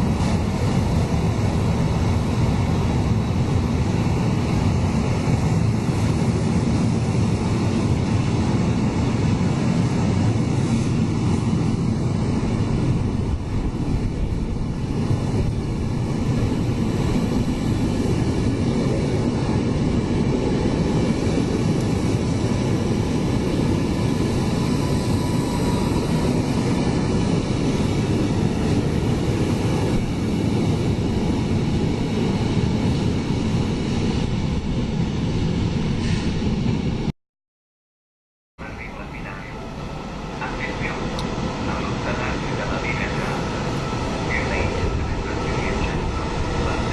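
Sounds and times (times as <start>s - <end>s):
train low rumble: 0.0s - 37.1s, 38.6s - 46.9s.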